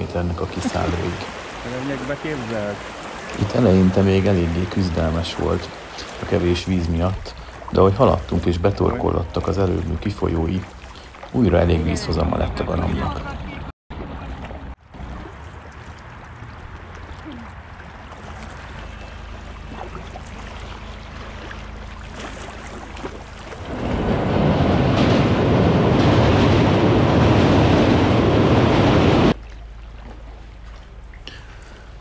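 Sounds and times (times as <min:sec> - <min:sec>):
paddle strokes in water: 0:00.4 - 0:12.1, 0:13.0 - 0:24.5, 0:29.3 - 0:32.0.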